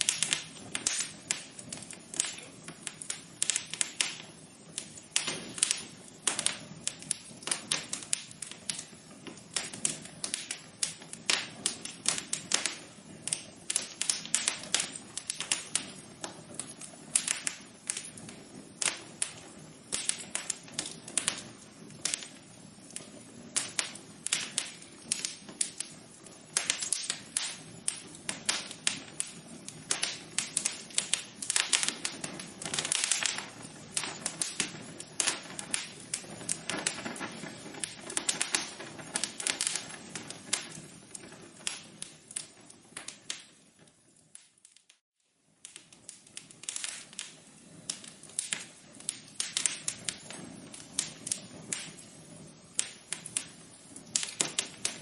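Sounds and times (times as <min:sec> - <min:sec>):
fire crackling and popping: 0:00.0 - 0:55.0
soft hiss: 0:00.0 - 0:55.0.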